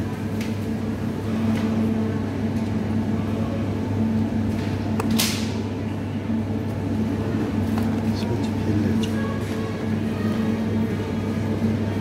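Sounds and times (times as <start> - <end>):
refrigerated cases humming: 0.0 - 12.0.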